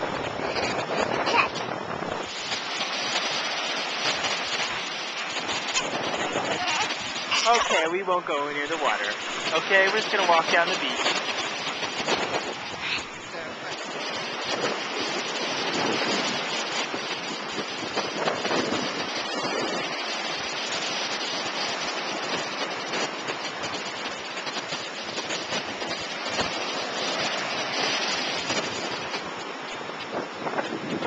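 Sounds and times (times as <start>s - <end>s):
waves washing on sandy shore: 0.0s - 31.0s.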